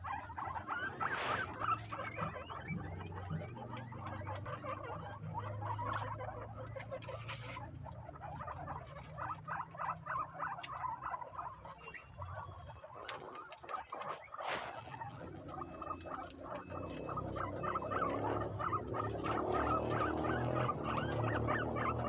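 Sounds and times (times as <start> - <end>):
guinea pigs chewing husks: 0.0 - 22.0.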